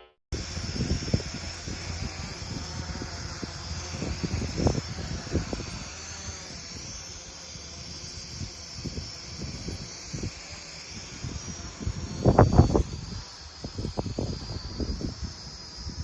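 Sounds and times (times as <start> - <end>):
wind buffeting the microphone: 0.4 - 7.0, 7.8 - 16.0.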